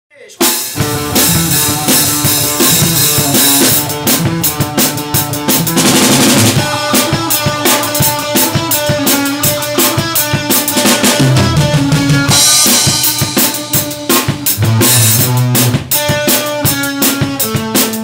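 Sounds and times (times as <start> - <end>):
fast drum kit strokes: 0.2 - 18.0
live band playing: 0.4 - 18.0.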